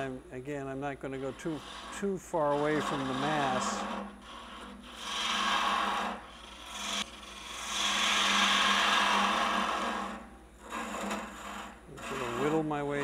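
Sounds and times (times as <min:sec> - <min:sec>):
gouge scraping wood on lathe: 0:00.9 - 0:13.0.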